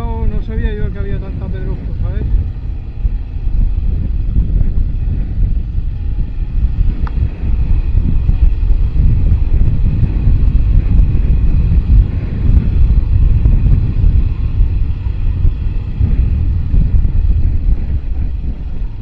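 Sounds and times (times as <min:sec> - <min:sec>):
motorcycle engine running: 0:00.0 - 0:19.0
wind rumbling on microphone: 0:00.0 - 0:19.0.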